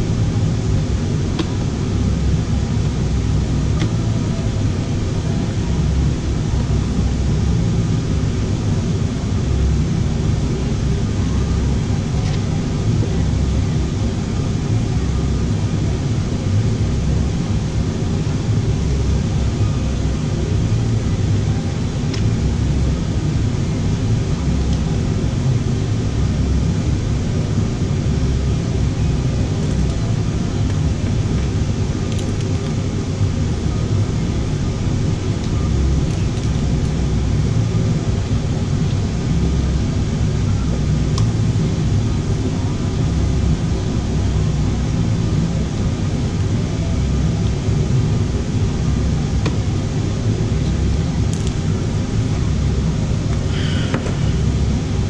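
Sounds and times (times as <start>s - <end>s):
loud rumbling with hiss: 0.0s - 55.0s.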